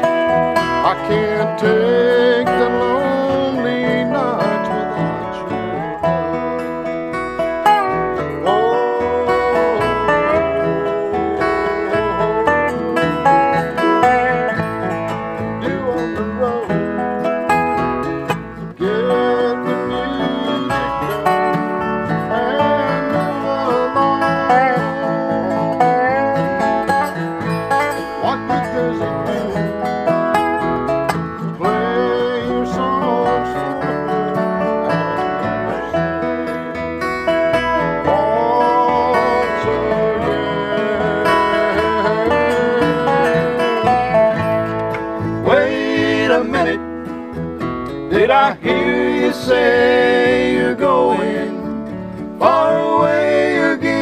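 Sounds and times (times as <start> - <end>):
acoustic guitar strumming: 0.0 - 54.0
slide resonator guitar lead: 0.0 - 54.0
upright bass: 0.0 - 54.0.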